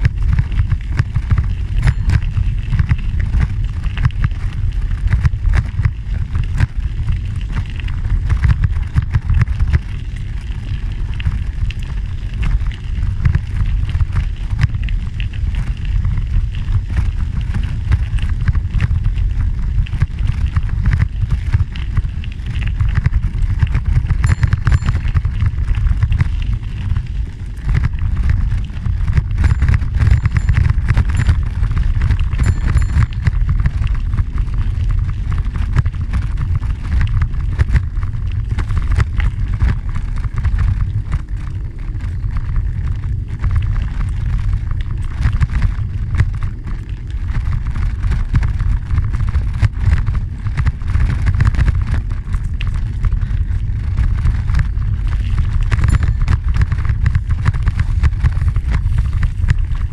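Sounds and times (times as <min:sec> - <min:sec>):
bicycle tyres rolling on gravel: 0:00.0 - 0:59.9
wind rumble on microphone: 0:00.0 - 0:59.9.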